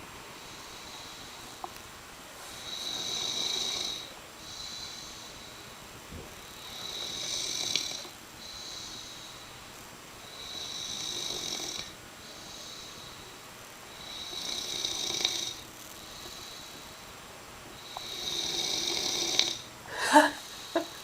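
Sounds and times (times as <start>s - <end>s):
soft breaths: 0.1s - 21.0s.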